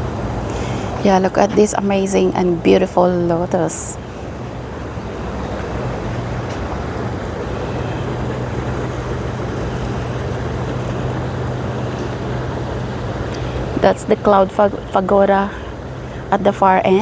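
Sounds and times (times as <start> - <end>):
constant rushing noise: 0.0 - 17.0
steady low hum: 0.0 - 17.0.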